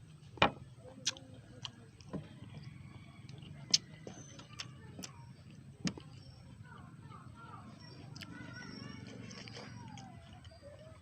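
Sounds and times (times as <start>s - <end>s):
mouth chewing: 0.9s - 6.9s, 7.6s - 11.0s.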